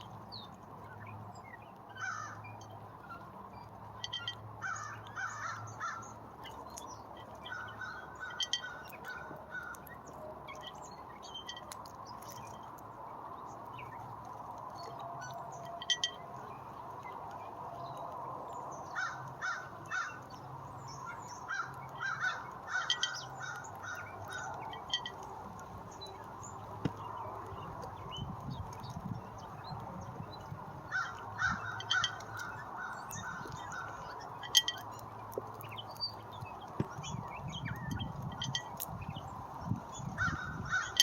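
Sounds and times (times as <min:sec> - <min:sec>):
birds calling: 0:00.0 - 0:12.8, 0:13.4 - 0:41.0.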